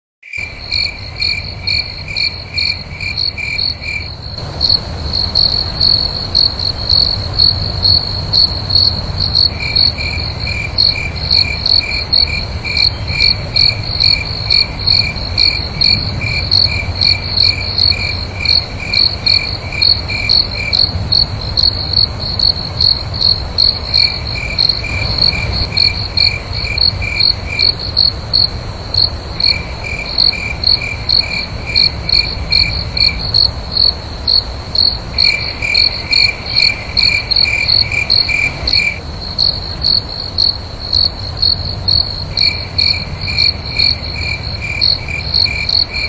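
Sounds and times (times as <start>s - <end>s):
crickets chirping: 0.2s - 46.0s
steady low rumble: 0.4s - 46.0s.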